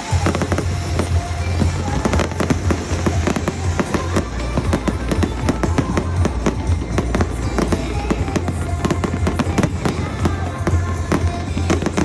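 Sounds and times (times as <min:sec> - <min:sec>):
fireworks bangs and crackling: 0:00.0 - 0:12.0
music playing: 0:00.0 - 0:12.0.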